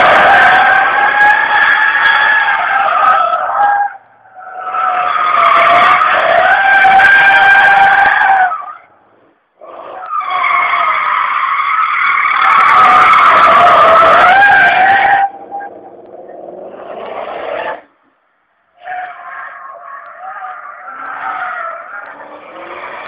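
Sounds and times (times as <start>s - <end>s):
tyres squealing: 0.0s - 9.0s, 9.6s - 18.0s, 18.8s - 23.0s.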